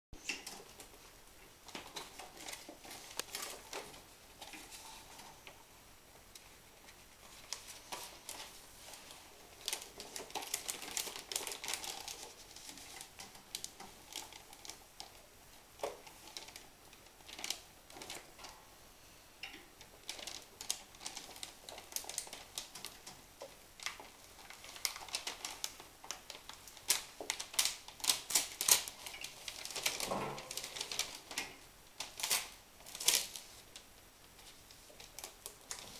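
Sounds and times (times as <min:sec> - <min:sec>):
laminating film crackling: 0:00.2 - 0:35.9.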